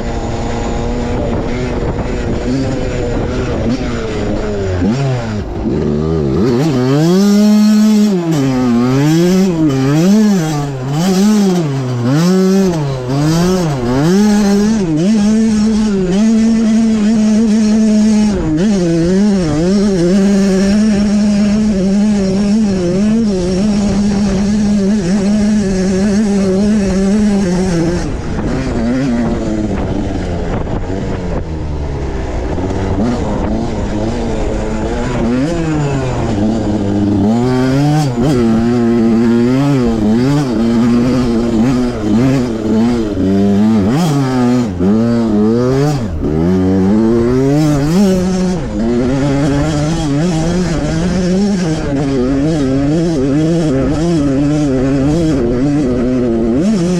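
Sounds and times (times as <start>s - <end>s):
small motorbike engine revving: 0.0s - 56.9s.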